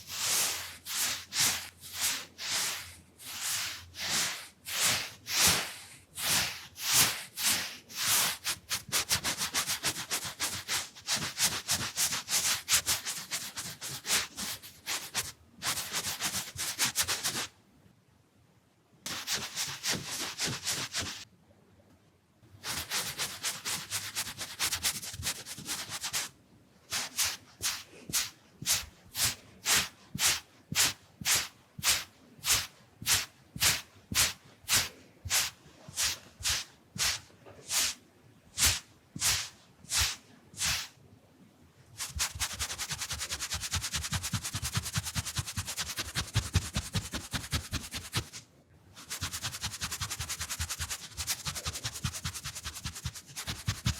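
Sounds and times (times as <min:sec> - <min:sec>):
brush sweeping across microphone: 0:00.0 - 0:17.5, 0:19.1 - 0:21.2, 0:22.6 - 0:41.0, 0:42.0 - 0:48.4, 0:49.0 - 0:53.9.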